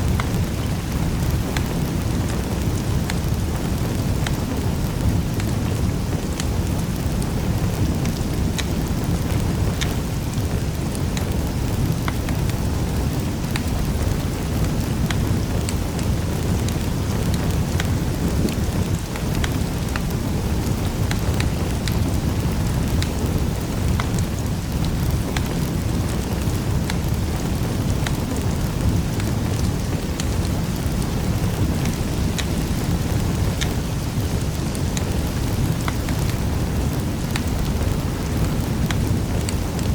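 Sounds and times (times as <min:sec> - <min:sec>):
fire crackles and pops: 0:00.0 - 0:39.9
low roar of flames: 0:00.0 - 0:39.9.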